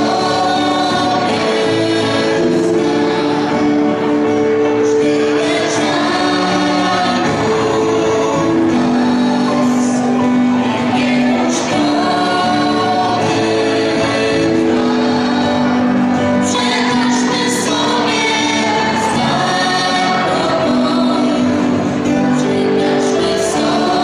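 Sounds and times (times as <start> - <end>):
acoustic guitar: 0.0 - 24.0
young voices singing together: 0.0 - 24.0.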